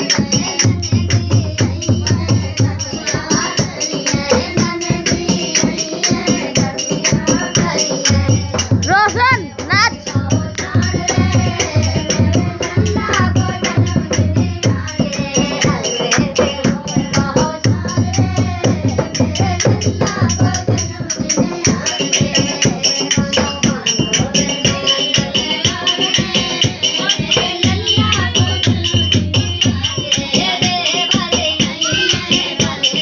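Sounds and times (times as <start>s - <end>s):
jingling percussion: 0.0s - 33.0s.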